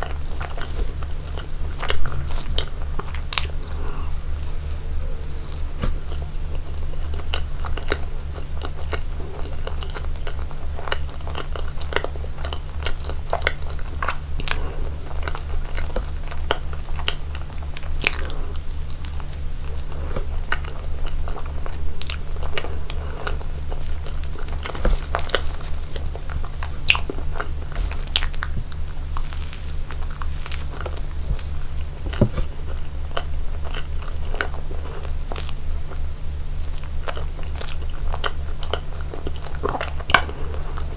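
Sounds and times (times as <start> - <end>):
person chewing and biting: 0.0 - 36.0
steady low hum: 0.0 - 40.9.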